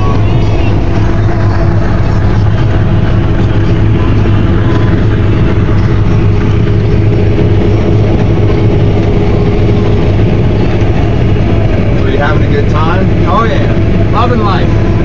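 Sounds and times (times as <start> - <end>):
combine harvester droning: 0.0 - 15.0.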